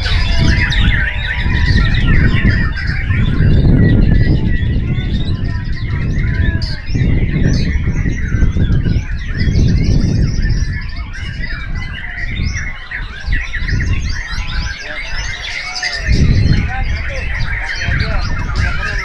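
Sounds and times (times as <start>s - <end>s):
birds whistling and trilling: 0.0s - 19.0s.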